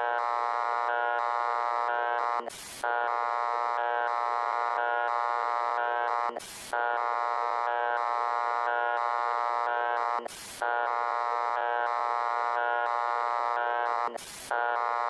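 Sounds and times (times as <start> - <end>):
buzzing alarm tone: 0.0 - 15.0
static burst: 0.0 - 15.0.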